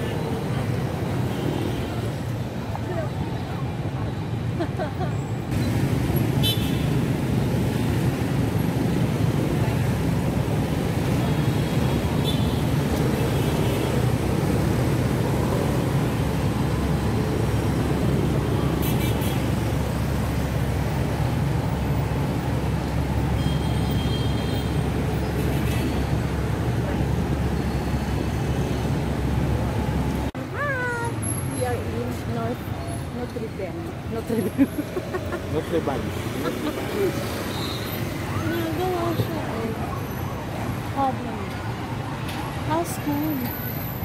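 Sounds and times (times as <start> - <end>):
vehicle engine and road traffic: 0.0 - 44.0.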